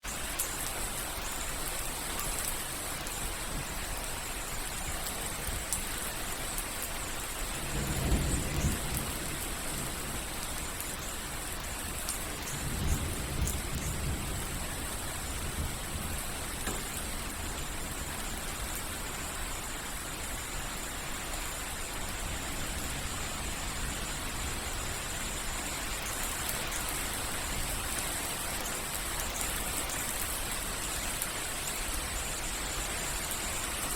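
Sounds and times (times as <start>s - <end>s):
soft rain dripping: 0.0s - 33.9s.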